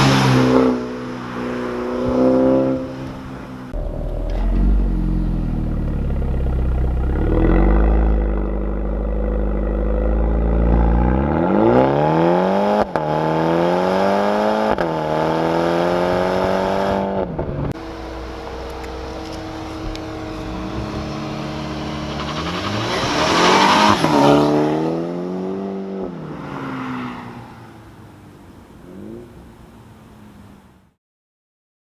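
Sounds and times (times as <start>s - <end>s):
car engine accelerating: 1.7s - 27.9s.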